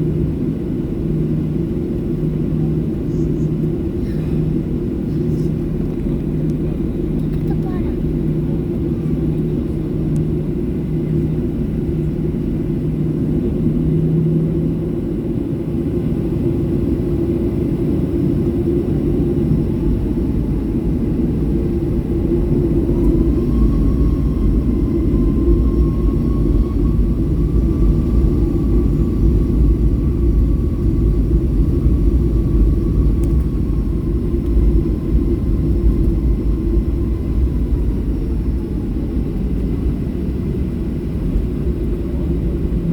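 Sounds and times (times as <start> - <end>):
jet engine whine: 0.0 - 42.9
jet engines rumbling in cabin: 0.0 - 42.9.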